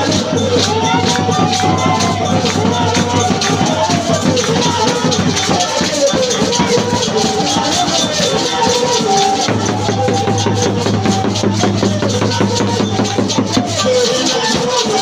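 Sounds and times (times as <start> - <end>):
drums and shakers: 0.0 - 15.0
wavering melody: 0.0 - 15.0.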